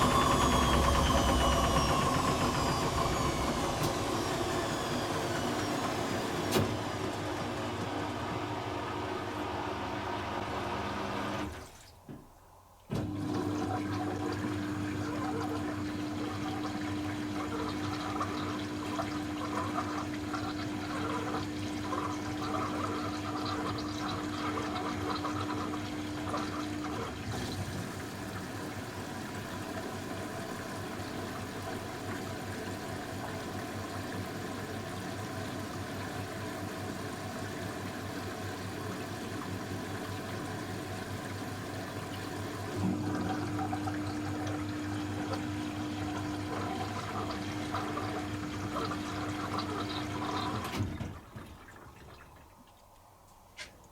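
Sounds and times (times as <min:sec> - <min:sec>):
washing machine hum: 0:00.0 - 0:53.9
water rushing in washing machine: 0:00.0 - 0:53.9.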